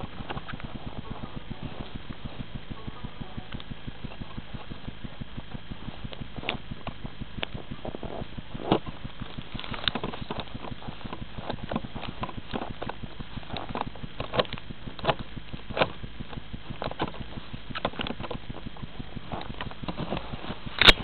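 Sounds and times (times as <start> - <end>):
camera rubbing and knocking: 0.0 - 21.0
fast low ticking: 0.0 - 21.0.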